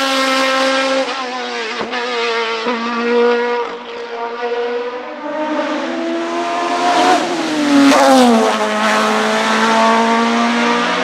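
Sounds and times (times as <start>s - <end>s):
racing car engine at high revs: 0.0s - 11.0s.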